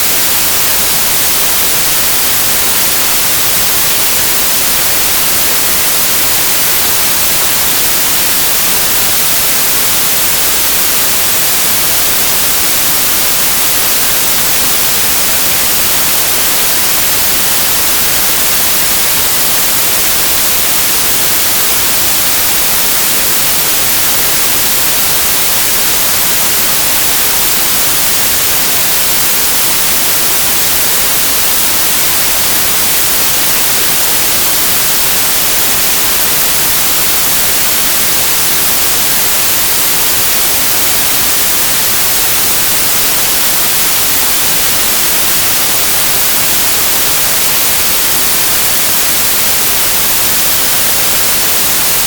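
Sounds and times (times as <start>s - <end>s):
loud steady hiss: 0.0s - 52.0s.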